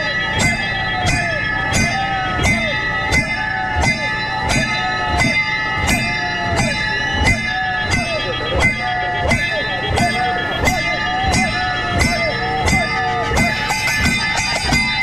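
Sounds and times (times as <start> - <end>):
sharp metallic strikes: 0.0 - 15.0
steady bell-like ringing: 0.0 - 15.0.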